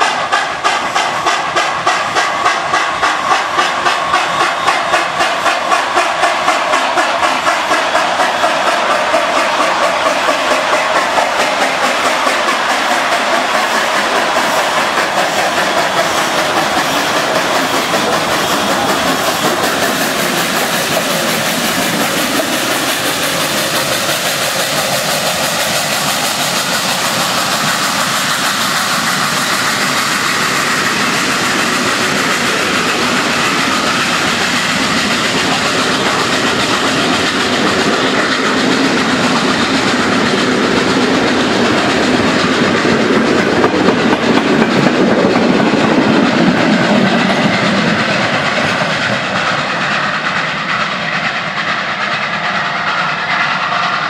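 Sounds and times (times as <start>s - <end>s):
steam locomotive passing: 0.0s - 54.0s
train wheels clattering on rails: 0.0s - 54.0s.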